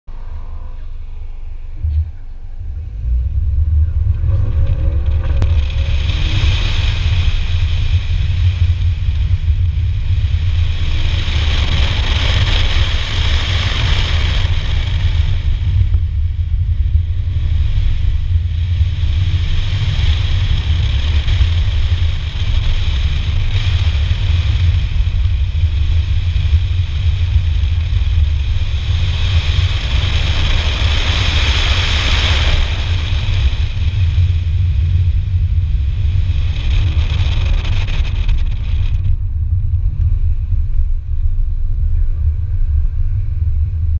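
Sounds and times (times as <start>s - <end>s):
car engine revving: 0.0s - 42.8s
wind rumble on microphone: 0.1s - 43.9s.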